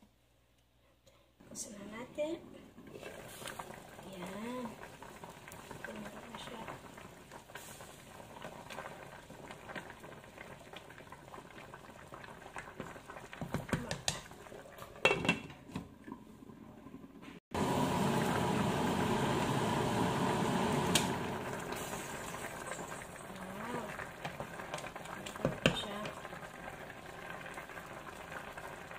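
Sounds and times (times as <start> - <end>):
sauce bubbling in a pan: 2.4 - 15.3, 15.9 - 28.9.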